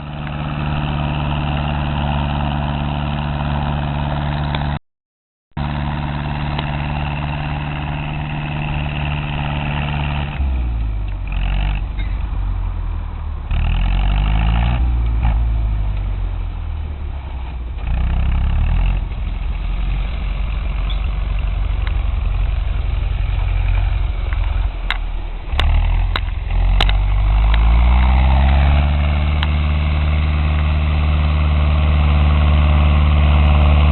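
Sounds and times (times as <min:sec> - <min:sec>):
tractor diesel engine revving: 0:00.0 - 0:04.8, 0:05.6 - 0:33.9.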